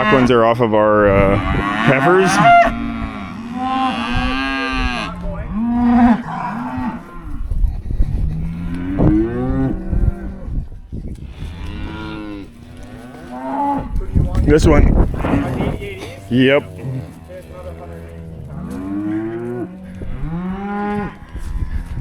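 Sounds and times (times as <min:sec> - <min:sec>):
cattle mooing: 0:00.0 - 0:07.6, 0:08.2 - 0:10.6, 0:11.2 - 0:22.0.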